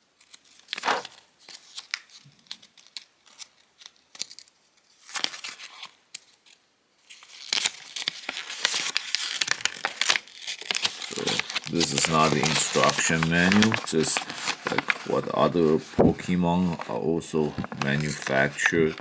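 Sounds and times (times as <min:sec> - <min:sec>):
paper rustling: 0:00.2 - 0:04.4, 0:07.1 - 0:19.0.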